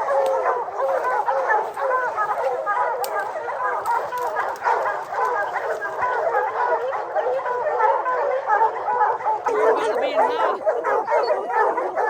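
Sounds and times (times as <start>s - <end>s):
hounds barking and bawling: 0.0s - 12.0s.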